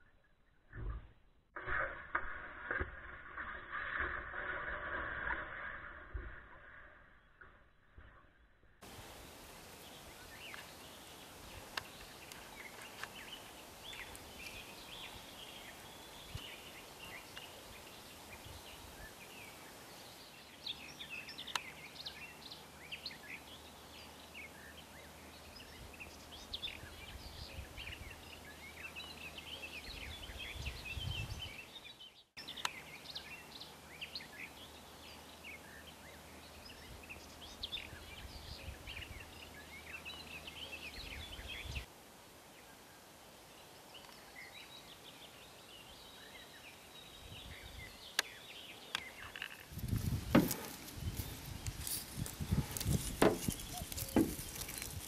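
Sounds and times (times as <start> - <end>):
small birds chirping and trilling: 9.1 - 41.9, 42.5 - 55.0.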